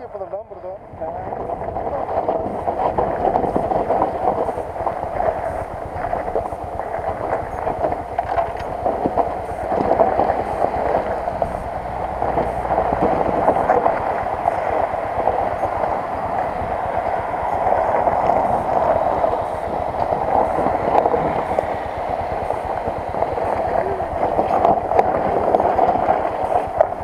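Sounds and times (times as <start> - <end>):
motorcycle engine running: 0.0 - 27.0
wind rumble on microphone: 0.0 - 27.0.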